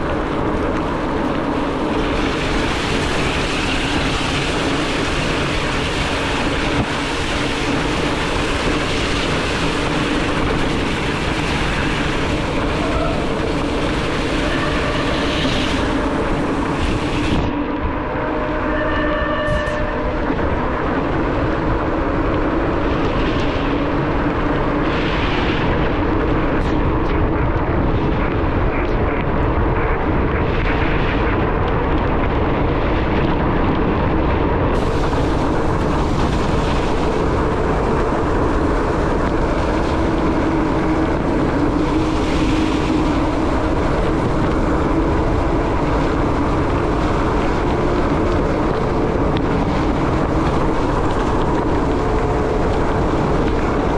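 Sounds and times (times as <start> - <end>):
bicycle tyres on wet road: 0.0 - 53.9
wind rushing: 0.0 - 53.9.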